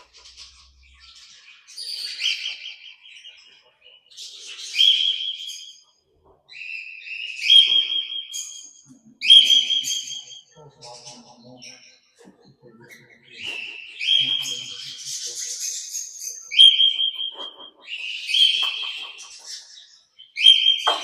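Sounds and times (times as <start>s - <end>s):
parrots chirping and whistling: 0.0s - 5.8s, 6.5s - 11.0s, 13.0s - 21.0s.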